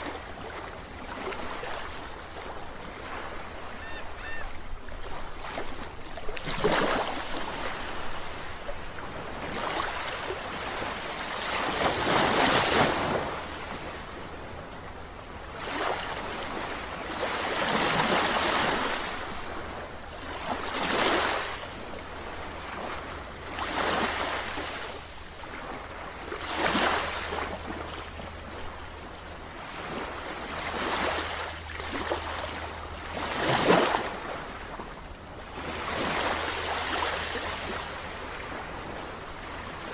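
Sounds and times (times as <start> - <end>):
low rumble of surf: 0.0 - 39.9
waves breaking on a beach: 0.0 - 39.9.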